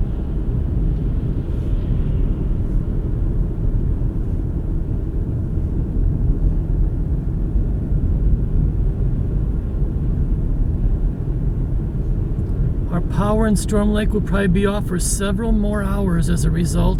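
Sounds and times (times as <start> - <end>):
car driving rumble: 0.0 - 16.9.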